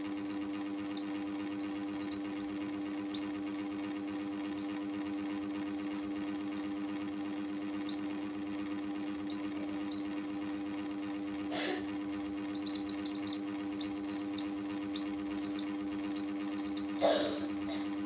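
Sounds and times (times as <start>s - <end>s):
chicks cheeping: 0.0s - 18.0s
loud electric hum: 0.0s - 18.0s.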